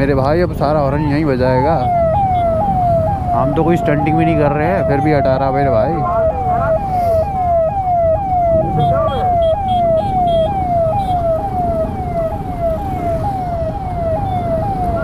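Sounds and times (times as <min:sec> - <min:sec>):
motorcycle engines rumbling: 0:00.0 - 0:15.0
traffic: 0:00.0 - 0:15.0
electronic siren wailing: 0:01.4 - 0:15.0.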